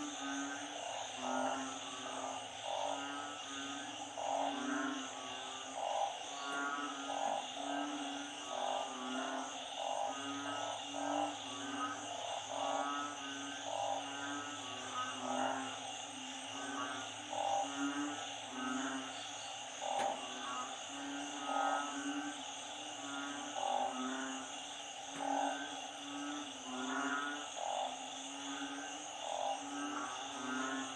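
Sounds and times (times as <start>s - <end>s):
frogs calling: 0.0s - 30.9s
high insect drone: 0.0s - 30.9s.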